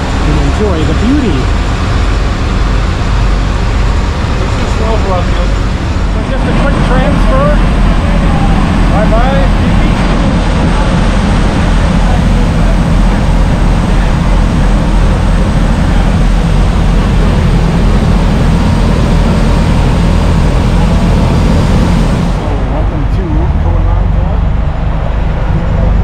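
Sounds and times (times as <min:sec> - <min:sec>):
speedboat engines running: 0:00.0 - 0:26.0
wake rushing: 0:00.0 - 0:26.0
wind buffeting microphone: 0:00.0 - 0:26.0.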